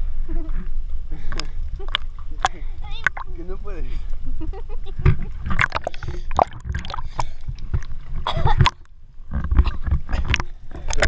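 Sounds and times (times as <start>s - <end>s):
water splashing against camera: 0.4s - 4.2s, 4.8s - 11.0s.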